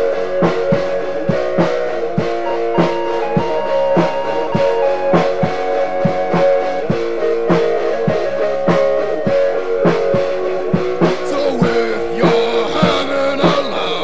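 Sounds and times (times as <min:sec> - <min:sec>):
guitar chords ringing: 0:00.0 - 0:14.0
steady drum beat: 0:00.0 - 0:14.0.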